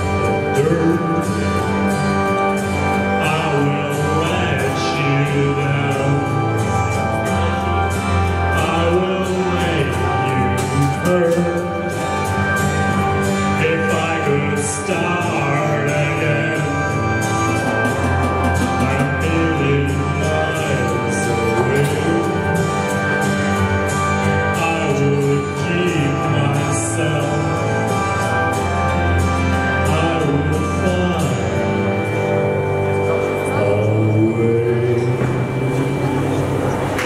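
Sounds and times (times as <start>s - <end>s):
man singing into microphone: 0.0s - 12.5s, 13.4s - 22.9s, 24.4s - 28.4s, 29.6s - 32.4s, 33.0s - 36.5s
instrumental accompaniment with beat: 0.0s - 37.0s.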